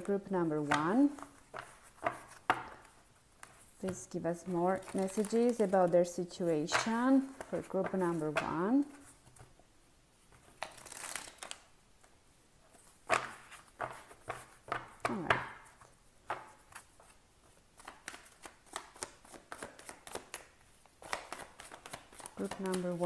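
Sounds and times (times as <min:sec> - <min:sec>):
cards being shuffled by hand: 0:00.0 - 0:09.6, 0:10.4 - 0:23.0.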